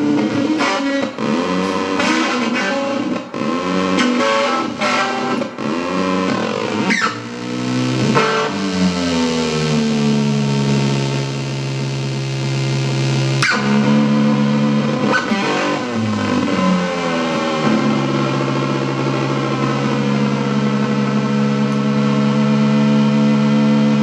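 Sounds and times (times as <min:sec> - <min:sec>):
fuzz guitar notes: 0:00.0 - 0:24.0.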